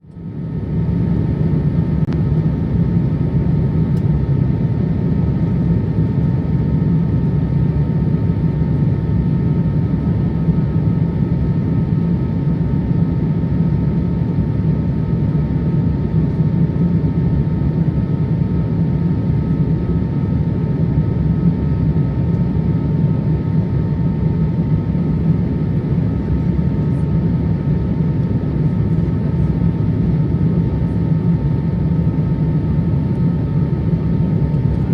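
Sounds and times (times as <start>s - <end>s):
aircraft cabin engine and airflow rush: 0.0s - 34.9s.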